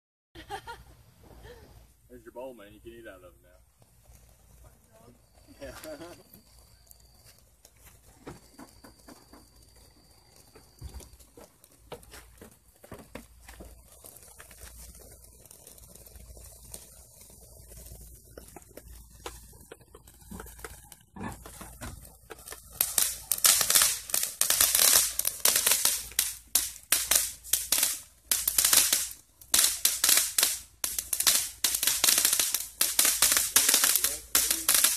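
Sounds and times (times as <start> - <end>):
fountain firework burning: 0.4 - 34.9
rapid crackling pops: 2.4 - 34.9.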